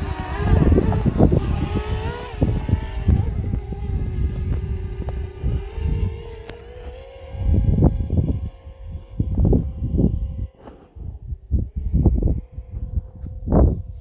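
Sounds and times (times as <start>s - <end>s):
drone propellers whining: 0.0s - 14.0s
wind buffeting microphone: 0.0s - 14.0s.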